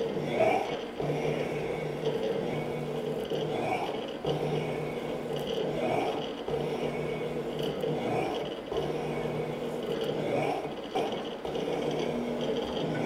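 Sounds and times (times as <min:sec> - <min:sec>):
shaper machine hum: 0:00.0 - 0:13.0.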